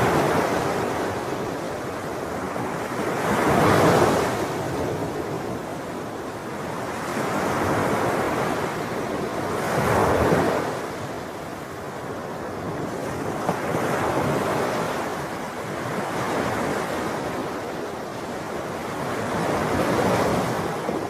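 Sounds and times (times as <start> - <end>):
ocean waves breaking on shore: 0.0 - 21.0.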